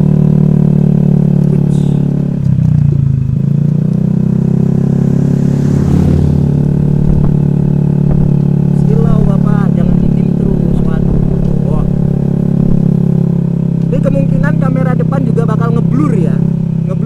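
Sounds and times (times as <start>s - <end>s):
scooter engine droning: 0.0s - 17.0s.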